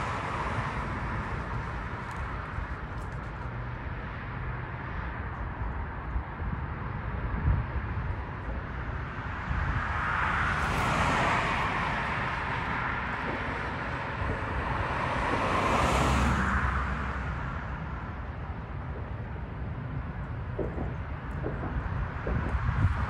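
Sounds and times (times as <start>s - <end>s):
low traffic rumble: 0.0s - 23.0s
vehicles passing: 0.0s - 23.0s.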